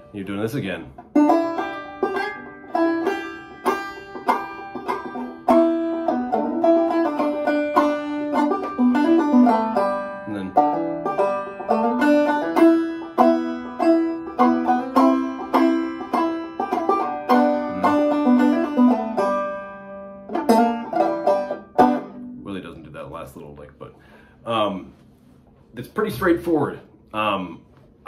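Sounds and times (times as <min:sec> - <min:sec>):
banjo played clawhammer style: 0:00.0 - 0:22.6.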